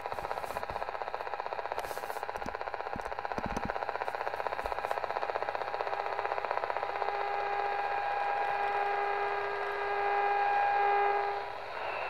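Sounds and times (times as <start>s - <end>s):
radio static: 0.0s - 9.8s
pulsing interference buzz: 0.0s - 12.0s
whining radio tone: 0.0s - 12.0s.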